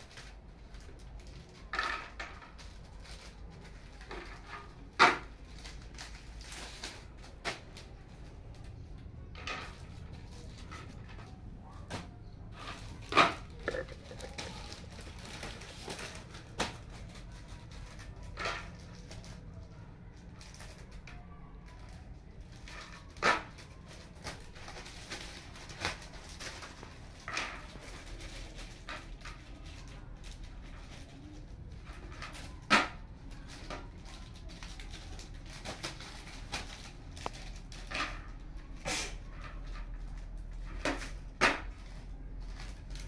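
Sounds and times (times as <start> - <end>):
clicks and rustles of packets: 0.0 - 43.0.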